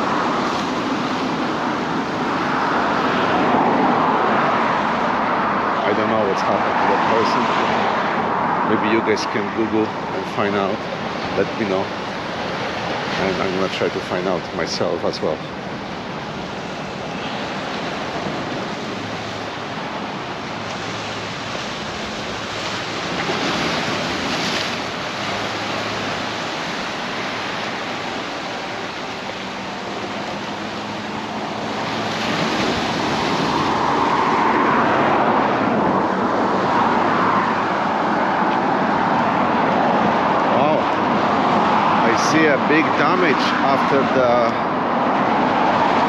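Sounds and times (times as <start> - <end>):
ocean surf breaking: 0.0 - 46.0
wind: 0.0 - 46.0.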